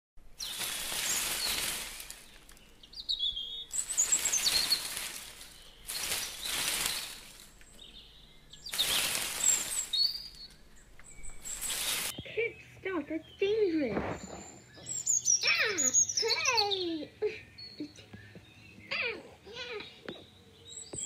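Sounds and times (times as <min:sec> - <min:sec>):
small birds chirping: 0:00.2 - 0:21.0.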